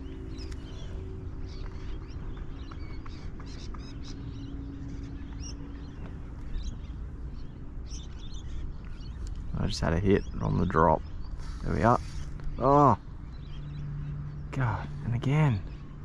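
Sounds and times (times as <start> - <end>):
bird chirps and calls: 0.0 - 15.8
faint hum: 0.0 - 16.0.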